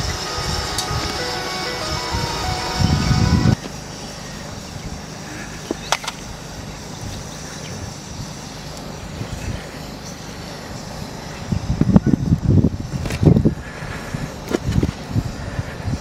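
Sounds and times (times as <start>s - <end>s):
low outdoor background noise: 0.0s - 16.0s.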